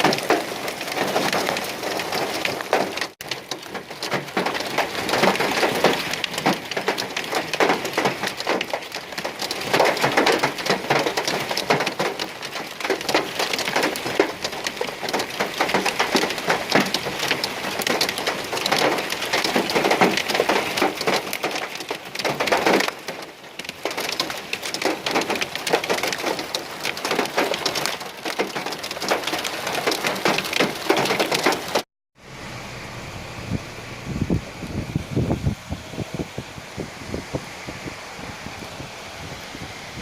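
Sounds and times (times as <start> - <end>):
heavy rain and hail pelting: 0.0 - 32.9.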